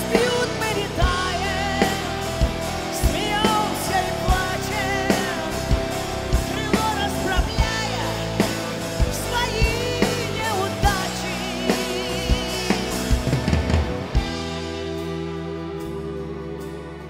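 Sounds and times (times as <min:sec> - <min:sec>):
drum kit beat: 0:00.0 - 0:16.7
live rock band playing: 0:00.0 - 0:17.0.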